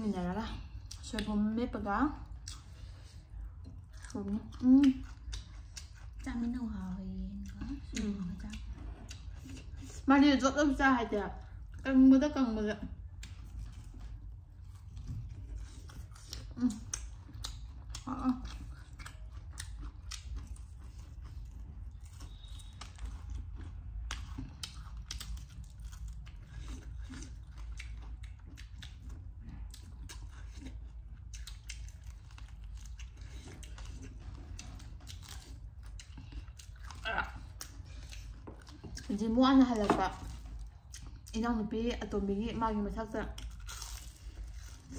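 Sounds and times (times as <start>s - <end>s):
chewing and crunching fried chicken: 0.0s - 44.9s
low steady hum: 0.0s - 44.9s.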